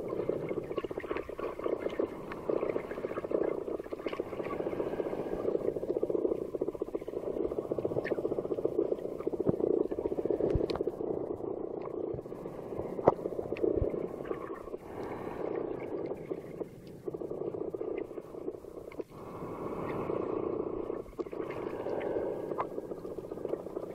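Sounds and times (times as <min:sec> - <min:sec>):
muffled underwater water noise: 0:00.0 - 0:23.9.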